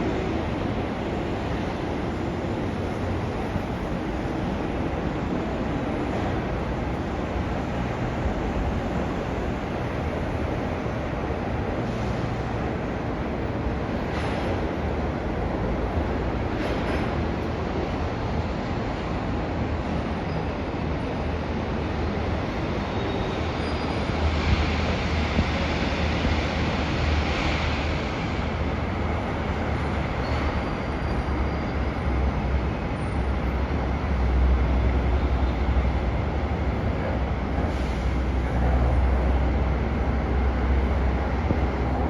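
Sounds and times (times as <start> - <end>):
monorail train rumbling: 0.0 - 42.0.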